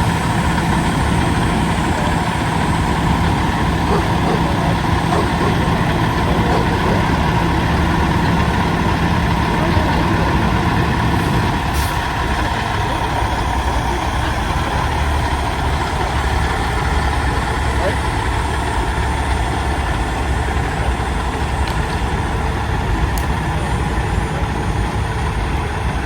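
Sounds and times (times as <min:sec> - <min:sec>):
diesel truck engines running: 0:00.0 - 0:26.0.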